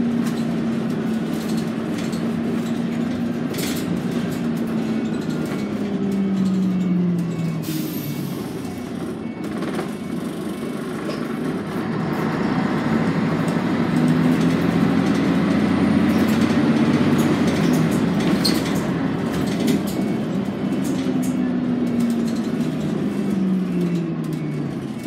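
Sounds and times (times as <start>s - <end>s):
bus diesel engine: 0.0s - 25.0s.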